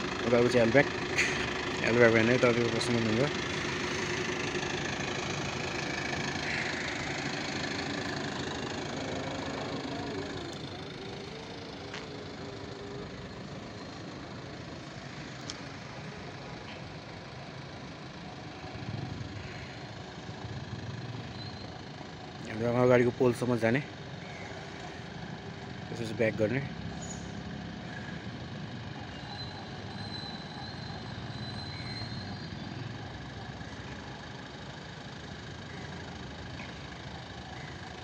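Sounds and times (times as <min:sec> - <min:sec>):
bus diesel engine passing: 0:00.0 - 0:38.0.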